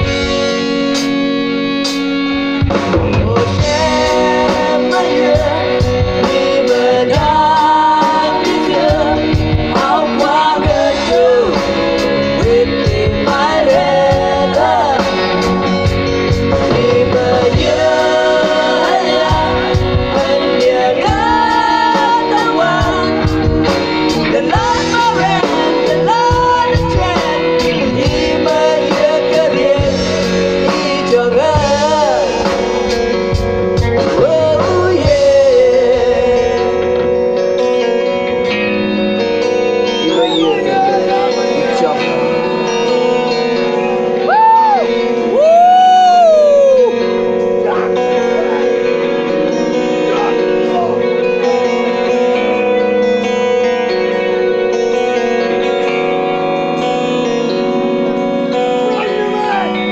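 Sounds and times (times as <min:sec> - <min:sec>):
live rock band: 0:00.0 - 0:59.9
person singing: 0:02.6 - 0:38.6, 0:39.7 - 0:54.2.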